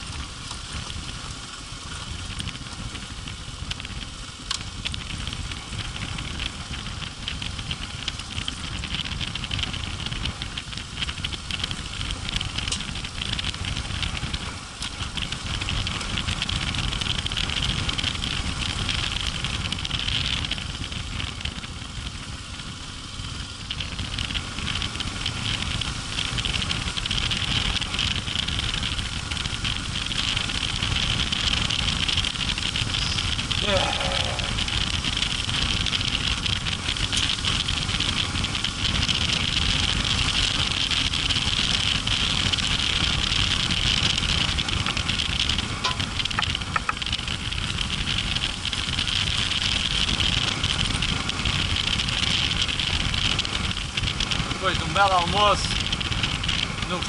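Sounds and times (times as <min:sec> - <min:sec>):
motorcycle engine running: 0:00.0 - 0:57.0
tyres rattling over gravel: 0:00.0 - 0:57.0.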